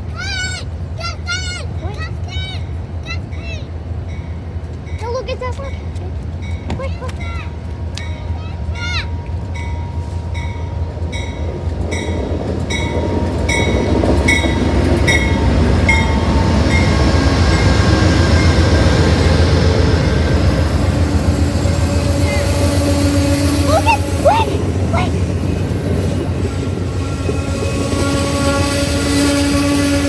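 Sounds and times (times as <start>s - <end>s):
train engine and wheels rumbling: 0.0s - 30.0s
locomotive bell ringing: 2.5s - 28.9s.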